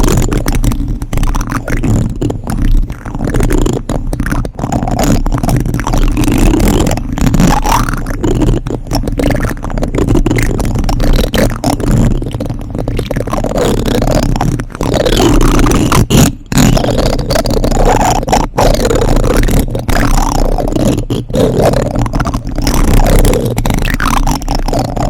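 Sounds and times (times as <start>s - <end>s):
microphone handling rumble: 0.0s - 25.0s
plastic spoons scraping microphone: 0.0s - 25.0s.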